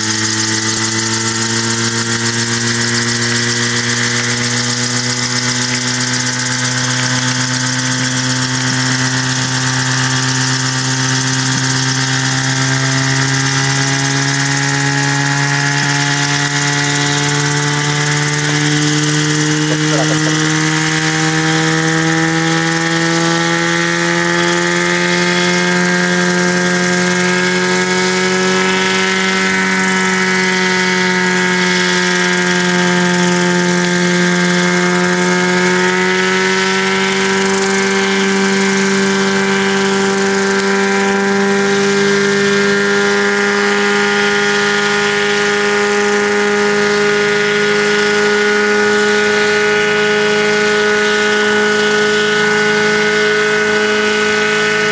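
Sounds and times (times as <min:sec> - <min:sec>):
helicopter engine and rotors humming: 0:00.0 - 0:54.9.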